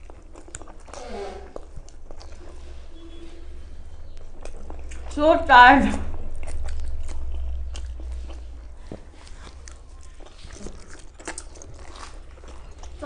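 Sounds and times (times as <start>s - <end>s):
people chewing dumplings: 0.0s - 13.0s
low rumble: 0.6s - 13.0s.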